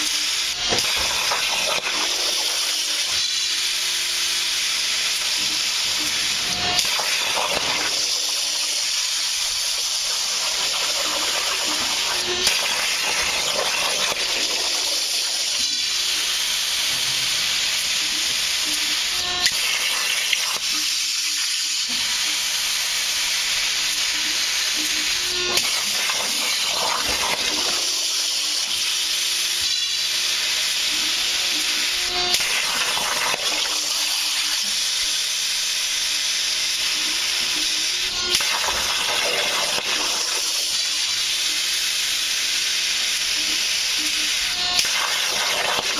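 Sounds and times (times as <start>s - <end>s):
plasma cutter torch hissing: 0.0s - 45.9s.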